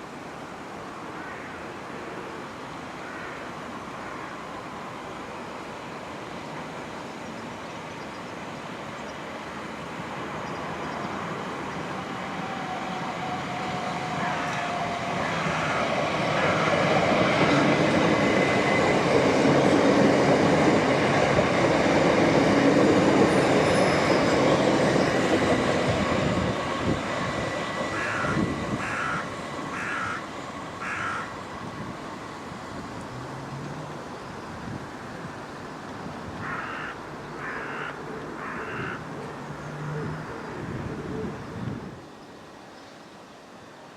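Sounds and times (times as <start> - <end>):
train passing rumble: 0.0 - 42.6.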